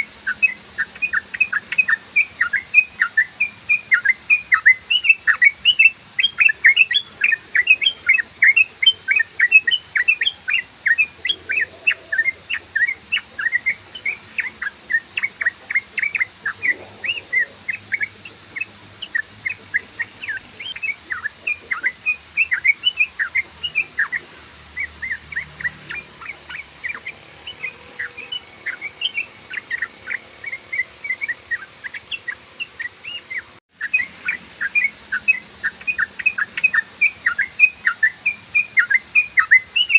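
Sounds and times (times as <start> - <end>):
bird rapid chattering song: 0.0 - 39.9.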